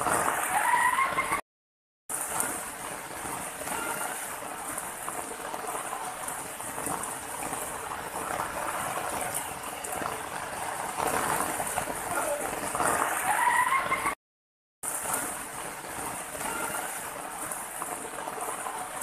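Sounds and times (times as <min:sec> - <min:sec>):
water rushing over rocks: 0:02.1 - 0:14.2, 0:14.8 - 0:19.0.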